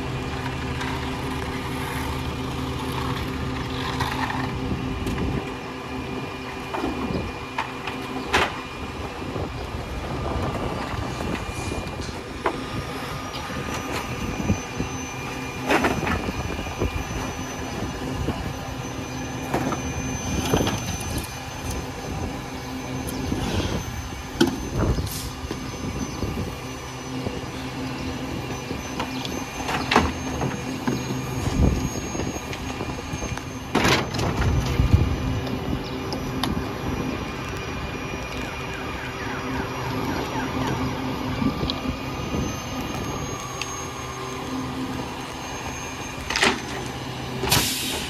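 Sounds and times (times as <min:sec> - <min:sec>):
garbage truck idling: 0:00.0 - 0:48.0.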